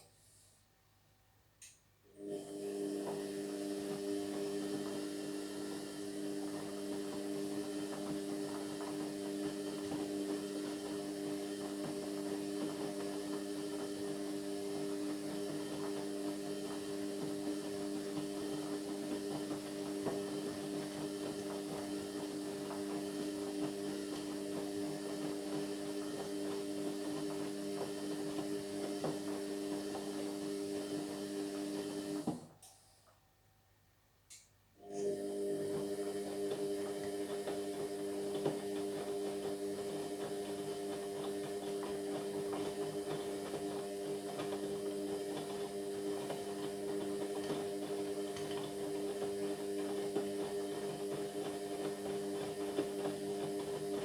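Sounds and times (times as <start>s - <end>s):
washing machine running: 2.2s - 32.6s, 34.8s - 54.0s.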